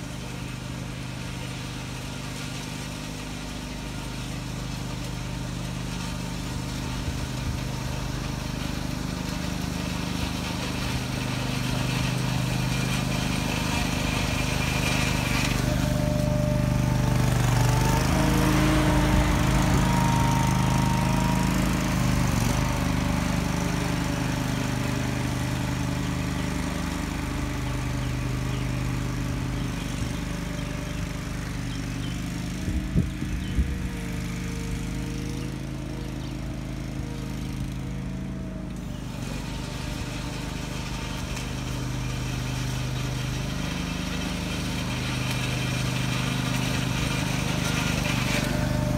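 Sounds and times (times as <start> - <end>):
ride-on mower engine: 0.0 - 48.9.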